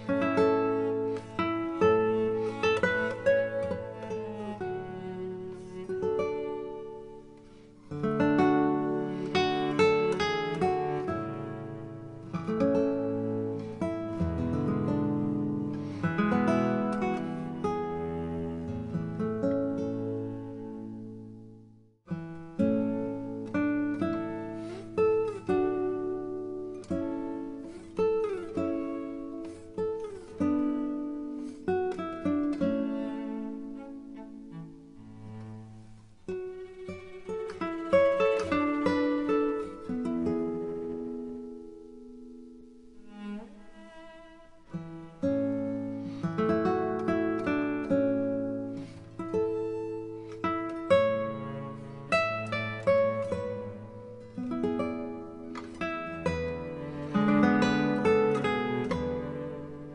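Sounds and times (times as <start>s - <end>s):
acoustic guitar chords: 0.0s - 59.9s.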